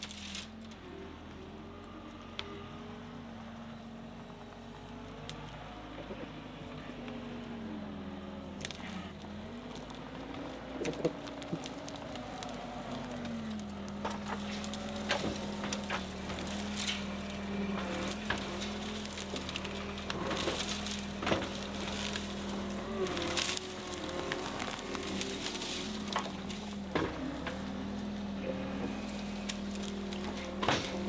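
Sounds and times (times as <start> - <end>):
loader engine running: 0.0 - 31.0
roots and branches cracking: 0.0 - 31.0.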